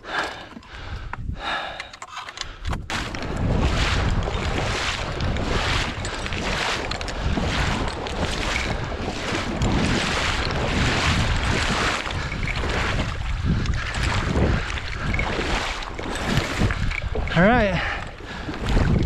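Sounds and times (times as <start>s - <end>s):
wind buffeting microphone: 0.0s - 1.8s, 2.5s - 19.0s
water splashing in surges: 2.9s - 19.0s.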